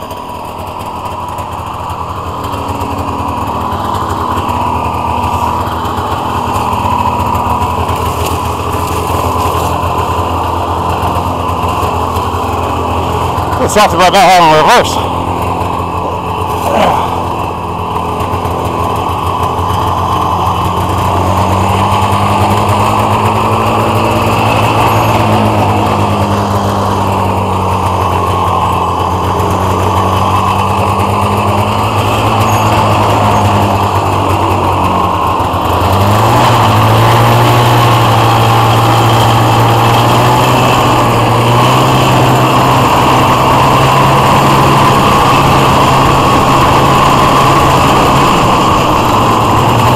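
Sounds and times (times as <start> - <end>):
snowmobile engine running: 0.0 - 49.9.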